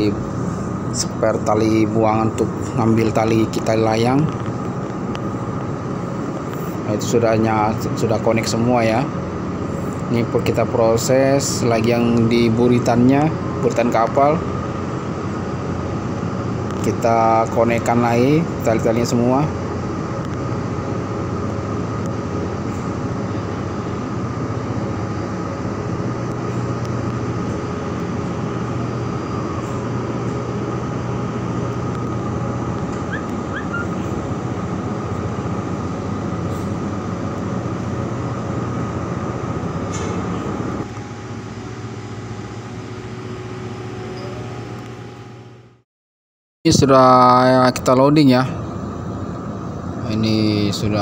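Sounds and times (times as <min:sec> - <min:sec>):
ship diesel machinery droning: 0:00.0 - 0:45.8
thin machinery whine: 0:00.0 - 0:45.8.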